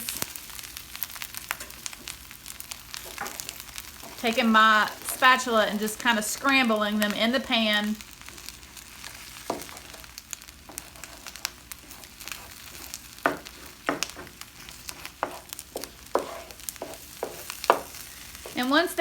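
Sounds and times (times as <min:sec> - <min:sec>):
eggs sizzling in a skillet: 0:00.0 - 0:19.0
spatula scraping a pan: 0:01.4 - 0:06.2, 0:08.3 - 0:18.8.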